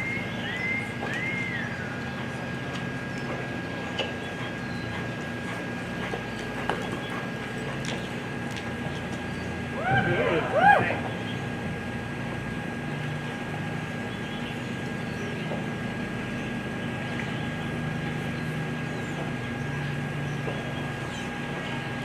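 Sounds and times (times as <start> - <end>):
background hum and hiss: 0.0 - 22.0.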